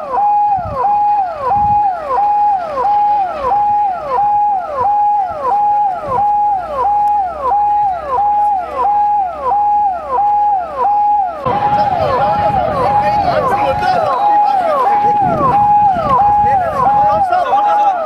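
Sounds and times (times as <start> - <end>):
electronic siren: 0.0 - 18.0.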